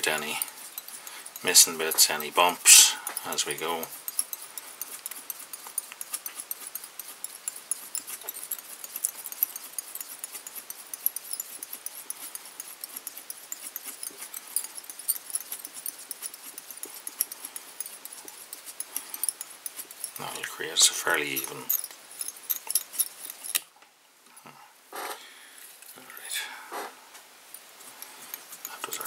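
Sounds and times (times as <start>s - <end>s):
thread winding clicks and ticks: 0.0s - 23.7s, 27.6s - 29.0s.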